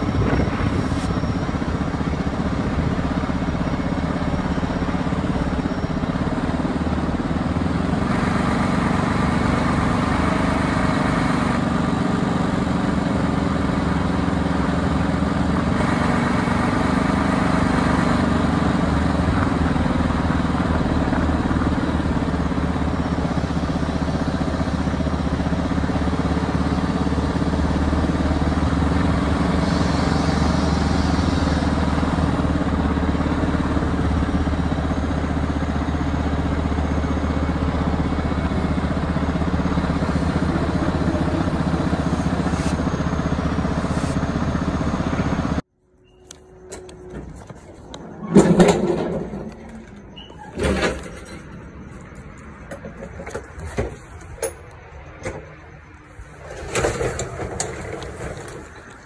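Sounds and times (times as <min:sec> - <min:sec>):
road noise: 0:00.0 - 0:59.0
truck diesel engine droning: 0:00.0 - 0:59.0.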